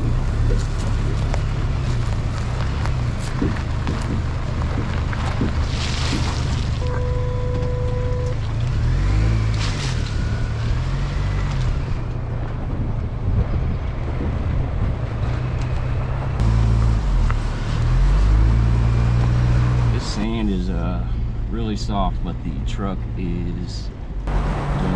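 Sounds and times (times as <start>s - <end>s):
truck engine revving: 0.0s - 23.3s, 24.2s - 24.9s.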